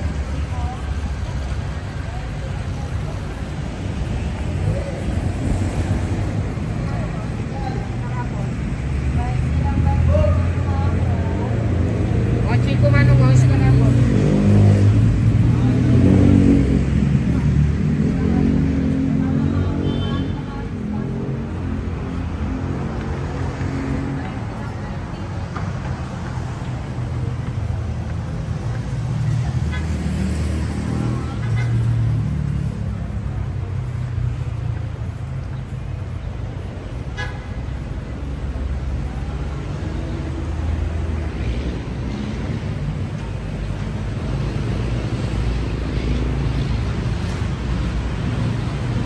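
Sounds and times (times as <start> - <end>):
vehicle engines passing: 0.0 - 49.0.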